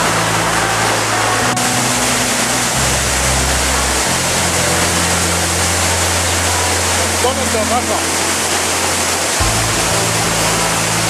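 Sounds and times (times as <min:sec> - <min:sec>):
background music low notes: 0:00.0 - 0:11.0
waterfall rushing: 0:00.0 - 0:11.0.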